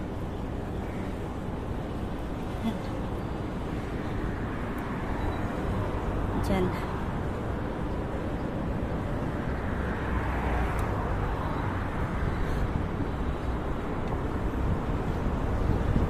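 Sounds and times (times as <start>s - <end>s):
passing cars: 0.0s - 16.0s
wind rumbling on microphone: 0.0s - 16.0s.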